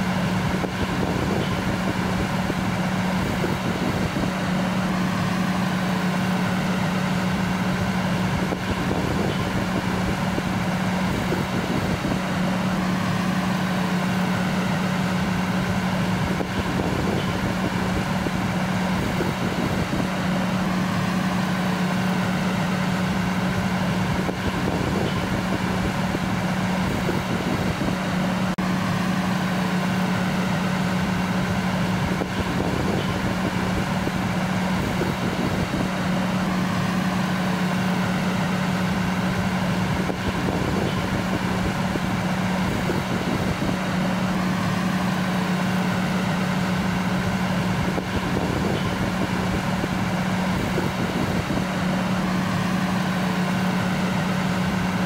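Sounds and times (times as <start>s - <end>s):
fire engine idling: 0.0s - 55.0s.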